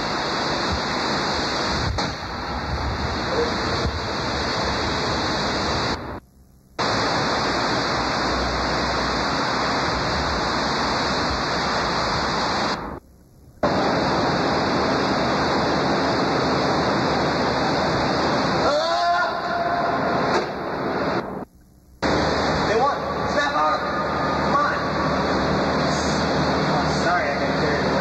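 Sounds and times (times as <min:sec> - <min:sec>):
static-like hiss: 0:00.0 - 0:28.0.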